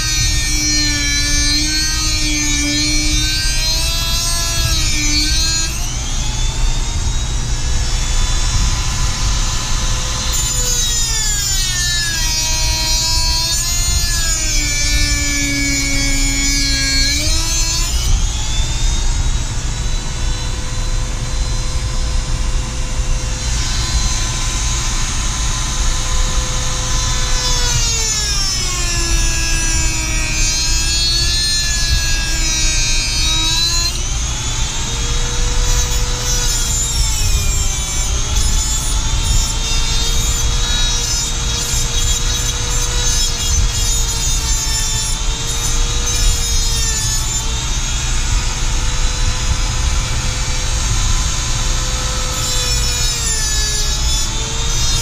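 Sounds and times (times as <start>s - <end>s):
chainsaw cutting at high revs: 0.0s - 55.0s.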